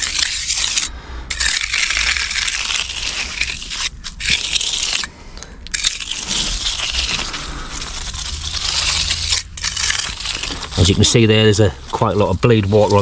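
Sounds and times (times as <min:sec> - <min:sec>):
trowel scraping wet concrete: 0:00.0 - 0:05.1, 0:05.7 - 0:13.0.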